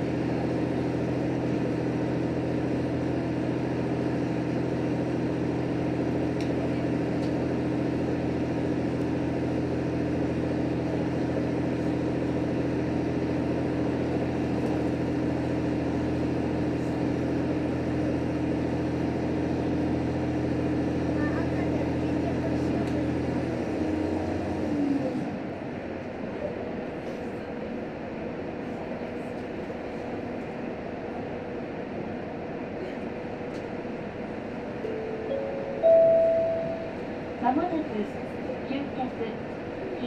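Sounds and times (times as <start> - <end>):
railcar engine hum: 0.0 - 40.0.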